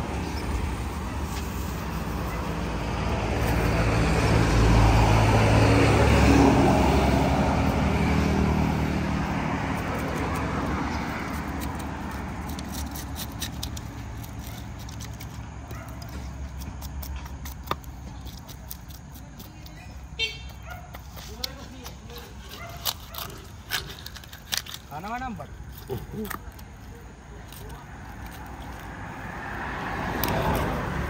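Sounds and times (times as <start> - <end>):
vehicle passing on road: 0.0 - 31.0.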